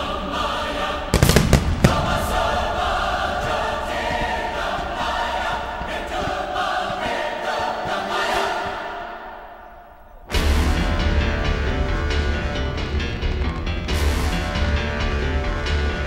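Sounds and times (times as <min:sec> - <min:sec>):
choral music: 0:00.0 - 0:16.0.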